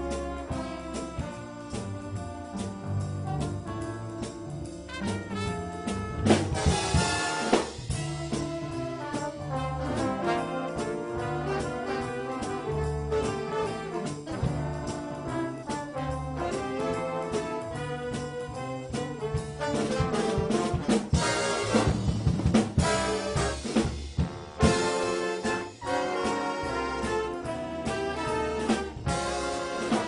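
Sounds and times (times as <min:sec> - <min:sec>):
brass band playing: 0:00.0 - 0:30.0
drum strokes: 0:00.0 - 0:30.0.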